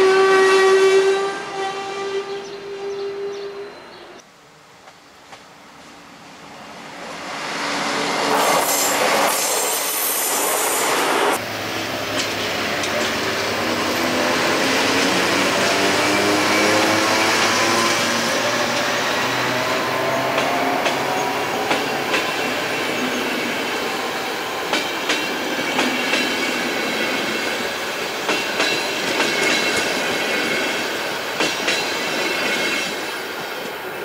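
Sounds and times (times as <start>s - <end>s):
train running with whine: 4.4s - 34.0s.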